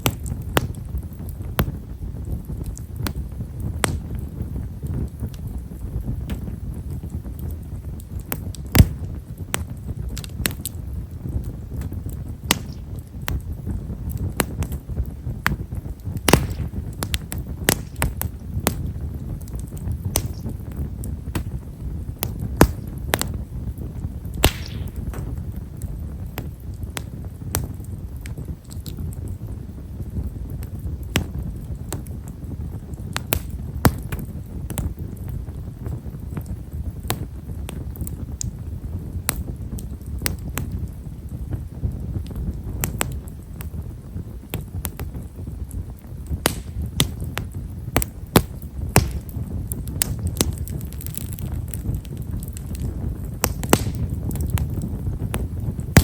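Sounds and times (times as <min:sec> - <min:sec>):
bonfire crackling and popping: 0:00.0 - 0:56.0
flames rushing: 0:00.0 - 0:56.0.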